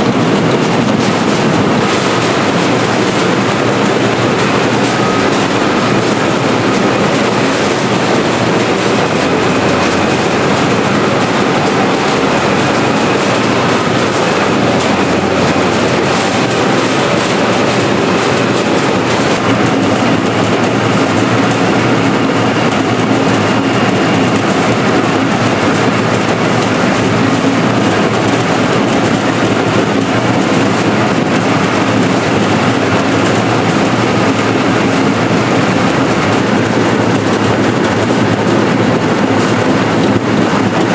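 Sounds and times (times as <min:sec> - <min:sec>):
potato cutter machine rattling: 0:00.0 - 0:40.9.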